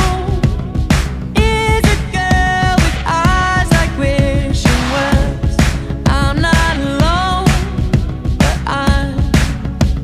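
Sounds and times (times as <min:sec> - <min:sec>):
upbeat pop-funk music: 0:00.0 - 0:10.0.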